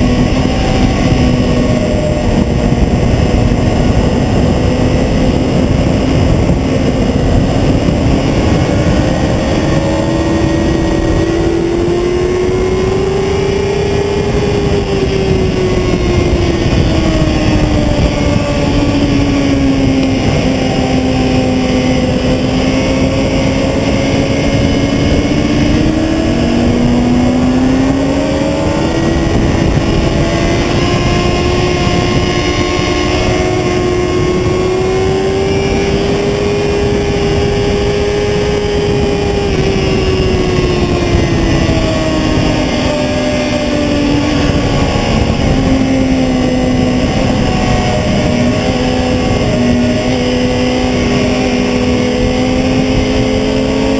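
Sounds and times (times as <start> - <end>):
heavy wind rush: 0.0 - 53.9
motorcycle engine running hard: 0.0 - 53.9.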